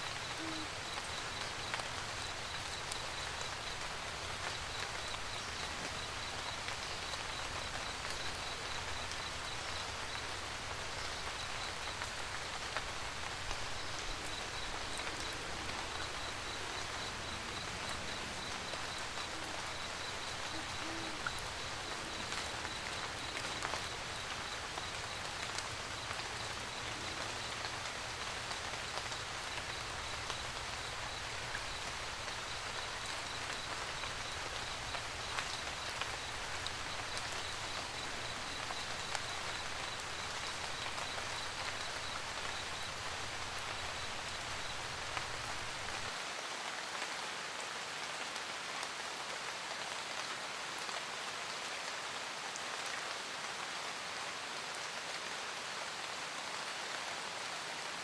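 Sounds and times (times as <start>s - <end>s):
rain pattering on a roof: 0.0s - 58.0s.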